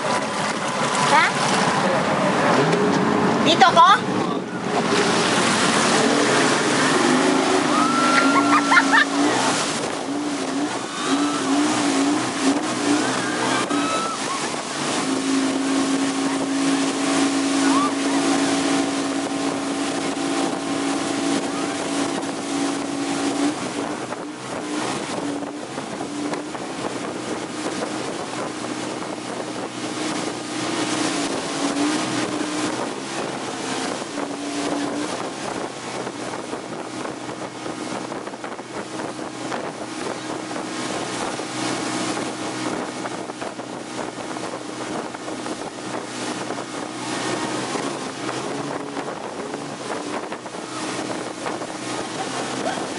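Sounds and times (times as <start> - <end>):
outboard motor running: 0.0 - 52.9
rushing wake: 0.0 - 52.9
wind buffeting microphone: 0.0 - 52.9.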